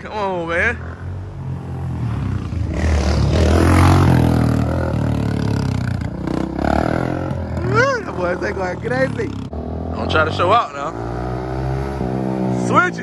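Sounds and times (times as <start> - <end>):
dirt bike engine revving: 0.8 - 13.0.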